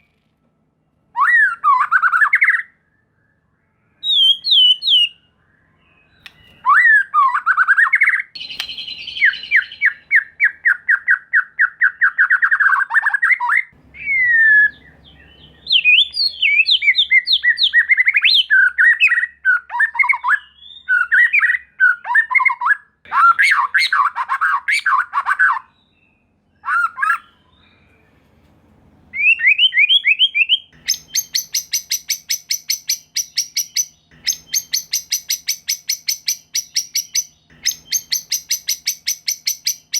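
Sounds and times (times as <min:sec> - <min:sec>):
bird singing whistled phrases: 0:01.2 - 0:28.1, 0:29.2 - 0:39.9.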